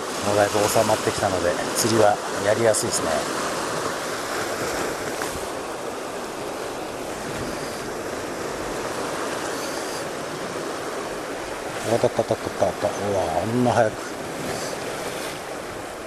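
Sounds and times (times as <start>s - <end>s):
light wind: 0.0s - 16.0s
surf washing against rocks: 0.0s - 16.0s.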